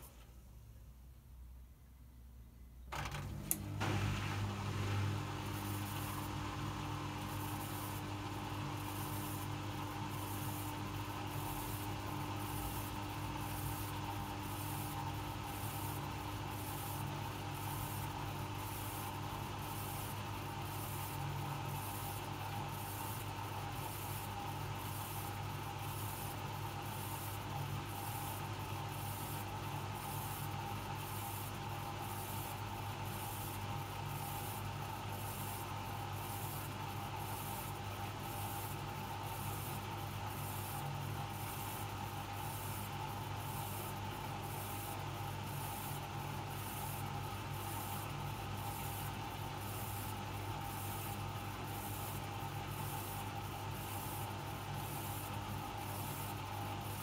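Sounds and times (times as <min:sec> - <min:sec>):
washing machine motor hum: 0:02.9 - 0:57.0.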